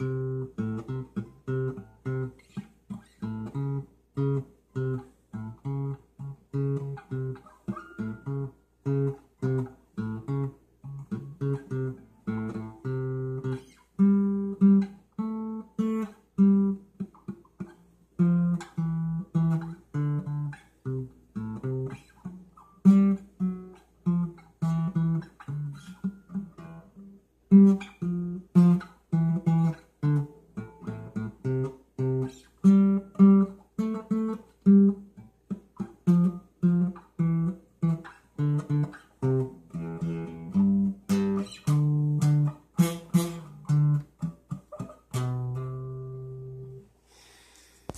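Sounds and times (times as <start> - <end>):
acoustic guitar picking: 0.0 - 46.9.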